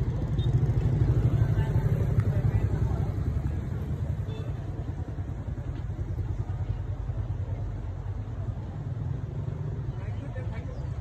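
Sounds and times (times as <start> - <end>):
idling engines rumble: 0.0 - 11.0.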